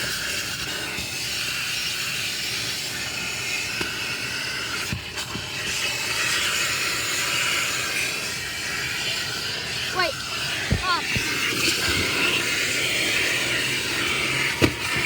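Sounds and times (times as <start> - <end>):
vacuum hose sucking air: 0.0 - 15.0.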